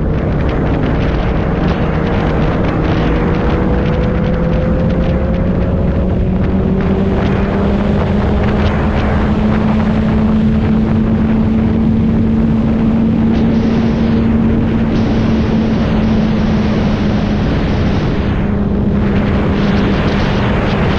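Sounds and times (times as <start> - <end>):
motorcycle engine running: 0.0 - 20.9
wind buffeting microphone: 0.0 - 20.9.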